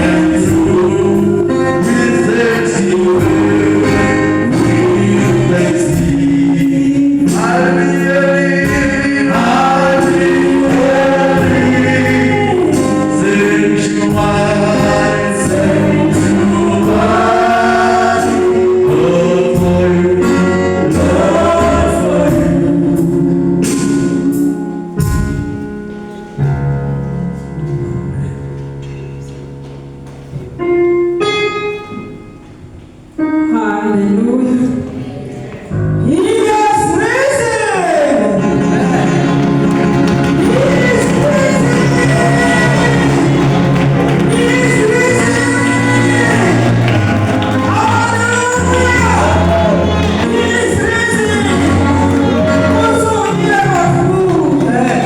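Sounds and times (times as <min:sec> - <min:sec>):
choir singing gospel music: 0:00.0 - 0:25.6, 0:34.5 - 0:55.0.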